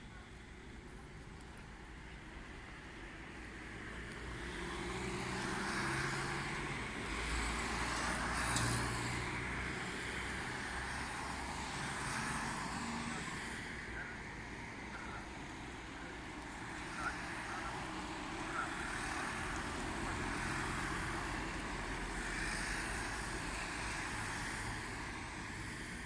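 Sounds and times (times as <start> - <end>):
vehicle passing: 3.8 - 26.0.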